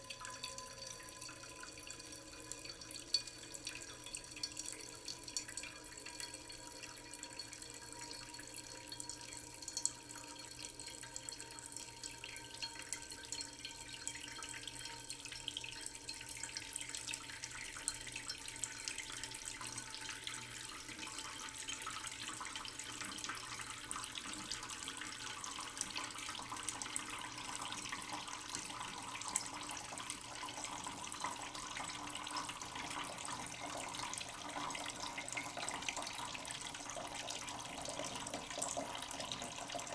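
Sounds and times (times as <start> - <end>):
tap water trickling into pot: 0.0 - 39.9.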